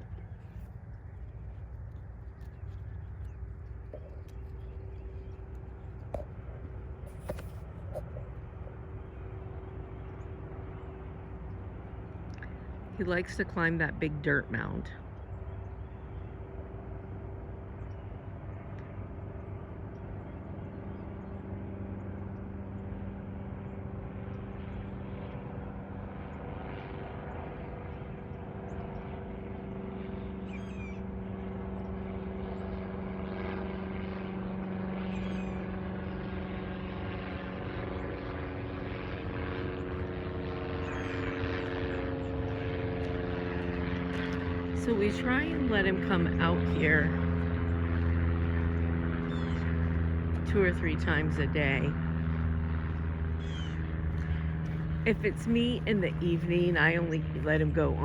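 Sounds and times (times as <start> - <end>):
propeller aircraft engine droning: 0.0 - 58.0.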